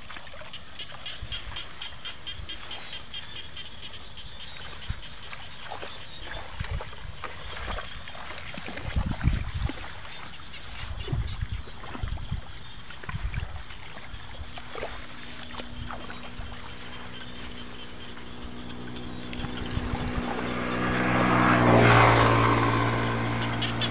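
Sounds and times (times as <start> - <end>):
low motor hum: 0.6 - 23.9
rustling in grass: 1.0 - 6.4, 7.0 - 11.8, 14.2 - 23.9.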